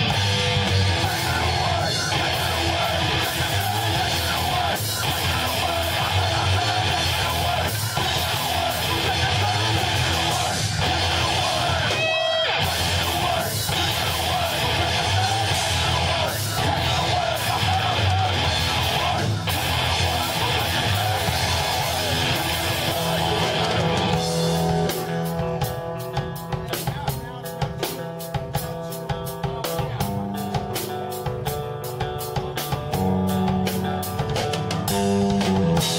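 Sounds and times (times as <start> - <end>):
rock band playing live: 0.0 - 35.9.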